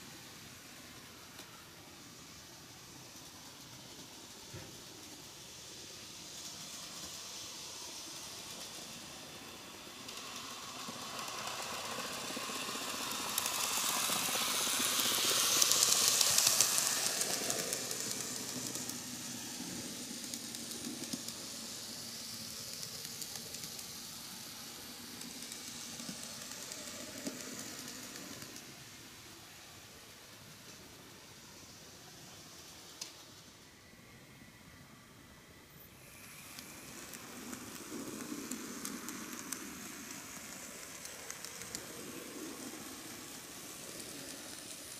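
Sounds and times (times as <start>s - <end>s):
model train running on track: 0.0s - 44.9s.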